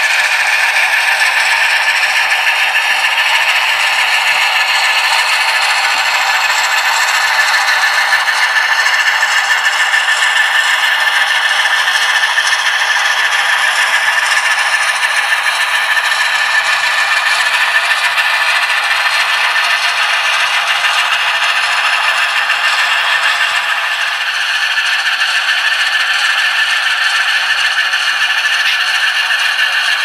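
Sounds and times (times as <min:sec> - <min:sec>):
diesel engine from small speaker: 0:00.0 - 0:30.0.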